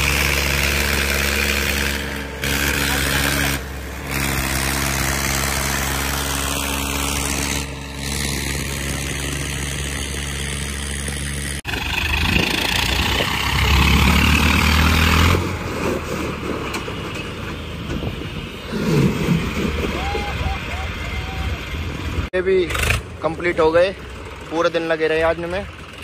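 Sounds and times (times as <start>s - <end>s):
tractor engine drone: 0.0s - 26.0s
tractor passing: 0.0s - 26.0s.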